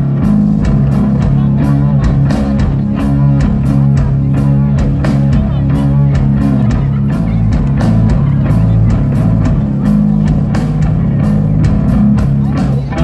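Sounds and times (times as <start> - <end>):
drum kit beat: 0.0 - 13.0
heavy electric guitar and bass riffs: 0.0 - 13.0.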